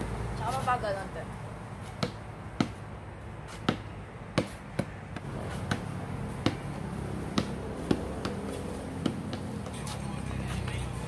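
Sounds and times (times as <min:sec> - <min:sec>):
basketball bouncing on concrete: 0:01.8 - 0:11.0.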